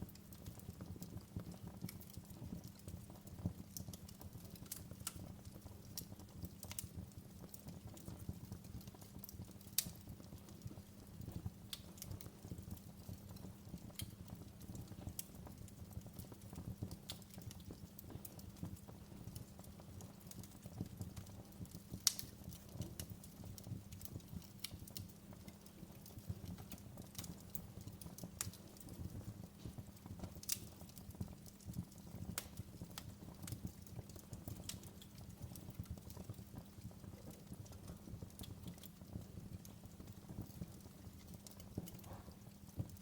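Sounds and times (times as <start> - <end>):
fire crackling in a fireplace: 0.0 - 43.0
low steady fire rumble: 0.0 - 43.0.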